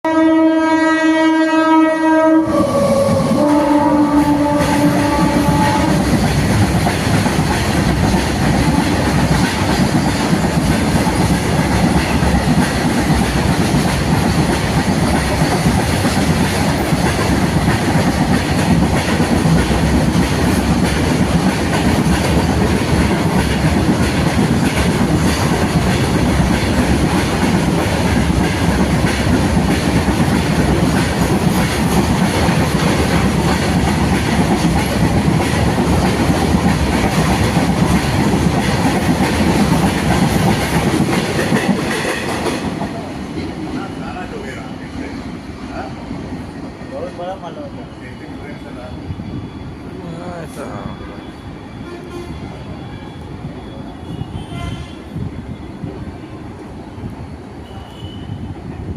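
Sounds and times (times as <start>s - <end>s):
train wagons rumbling and rattling: 2.0s - 58.9s.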